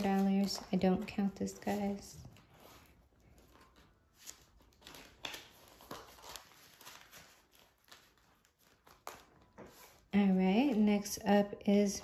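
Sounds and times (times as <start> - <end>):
paper and plastic rustling: 0.0 - 11.1.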